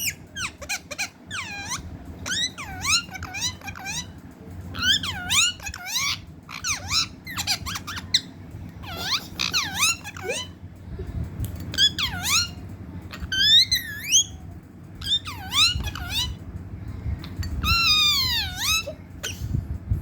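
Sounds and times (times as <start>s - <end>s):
parrot calling: 0.0s - 10.6s, 11.7s - 14.4s, 15.0s - 16.4s, 17.6s - 19.5s.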